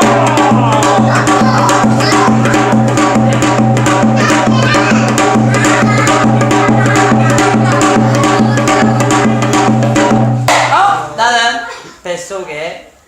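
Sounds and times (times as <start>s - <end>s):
hourglass drum strokes: 0.0s - 10.9s.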